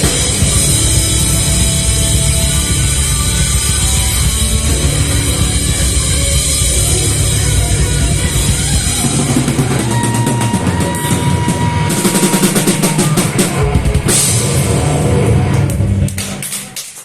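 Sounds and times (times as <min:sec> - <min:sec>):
distorted guitars: 0:00.0 - 0:17.0
drum kit: 0:00.0 - 0:17.0.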